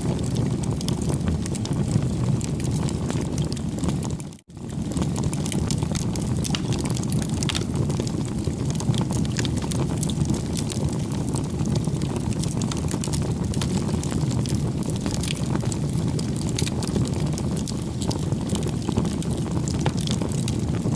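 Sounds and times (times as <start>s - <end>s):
campfire crackling and popping: 0.0s - 20.9s.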